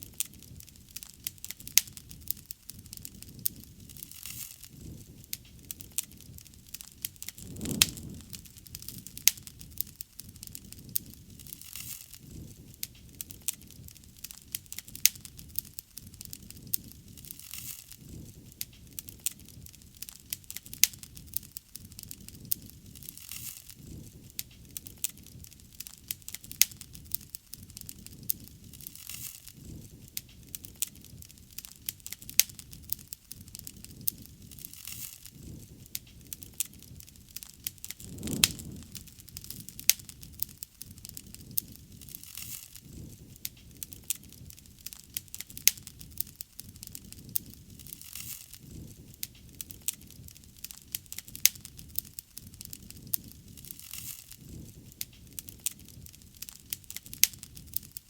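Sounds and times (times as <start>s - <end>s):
rush of burning flames: 0.0s - 58.0s
wood fire crackling: 0.0s - 58.0s.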